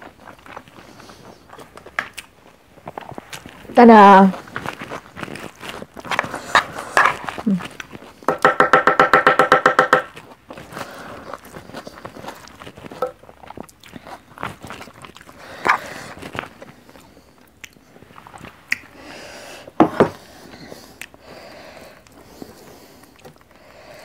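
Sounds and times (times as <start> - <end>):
person chewing food: 0.0 - 3.8, 4.4 - 8.4, 10.1 - 23.8.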